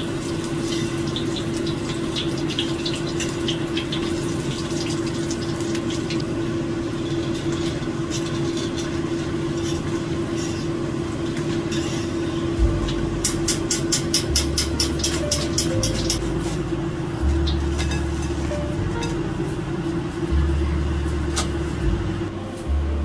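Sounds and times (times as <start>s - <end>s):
fritters sizzling in hot oil: 0.0s - 21.8s
steady hum: 4.1s - 23.0s.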